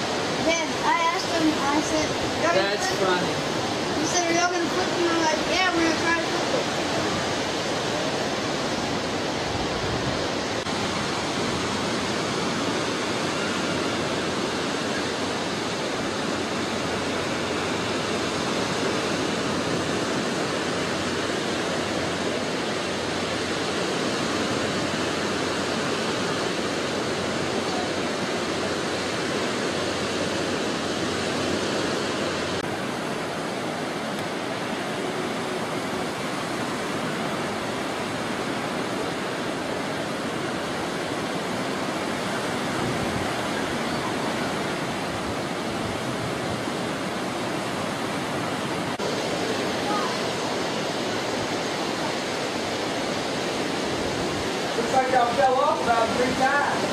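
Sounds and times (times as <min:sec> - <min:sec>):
ocean surf breaking: 0:00.0 - 0:56.9.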